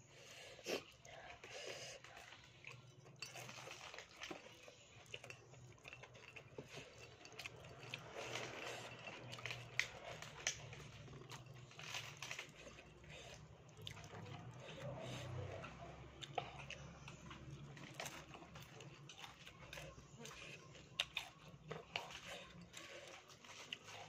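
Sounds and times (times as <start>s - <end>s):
close-up chewing with crunches: 0.0s - 24.0s.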